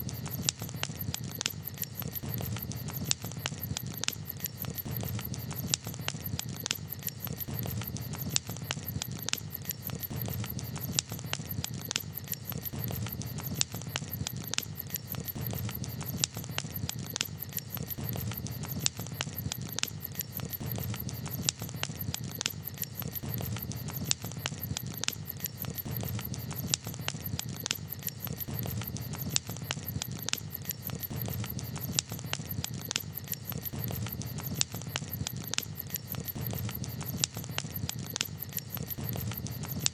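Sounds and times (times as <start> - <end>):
campfire crackling and popping: 0.0 - 39.9
low rumble of fire: 0.0 - 39.9.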